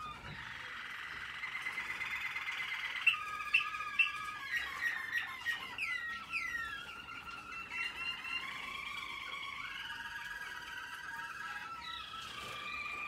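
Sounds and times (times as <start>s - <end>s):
canaries singing: 0.0s - 13.0s.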